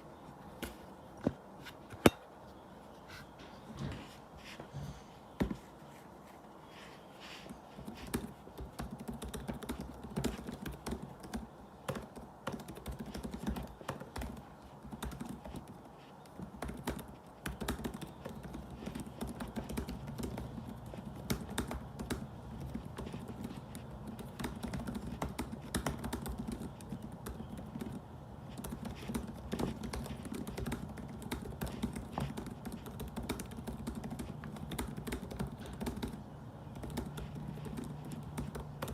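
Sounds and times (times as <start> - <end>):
laptop keyboard typing: 6.7 - 38.9.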